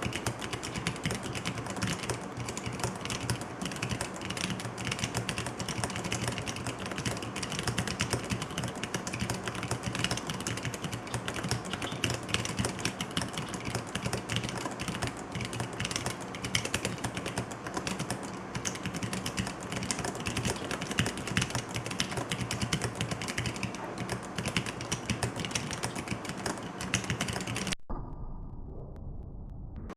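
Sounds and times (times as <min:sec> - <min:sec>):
mechanical keyboard typing: 0:00.0 - 0:27.8.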